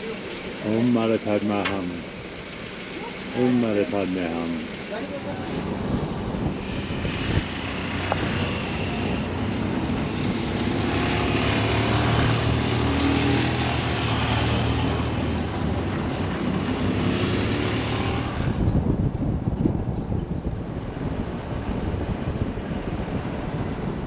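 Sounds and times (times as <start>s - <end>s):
vehicle engine drone: 0.0s - 24.0s
wind and road hiss: 0.0s - 24.0s.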